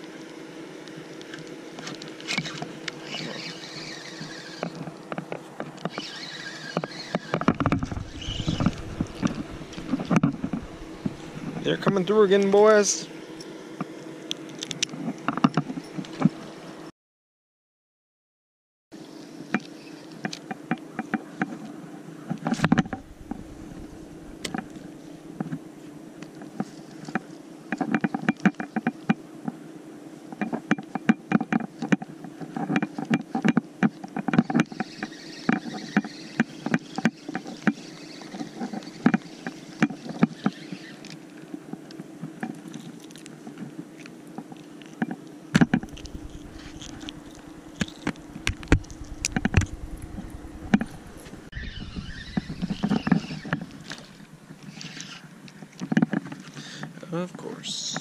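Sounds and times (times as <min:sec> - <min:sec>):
steady low hum: 0:00.0 - 0:16.9, 0:19.0 - 0:58.0.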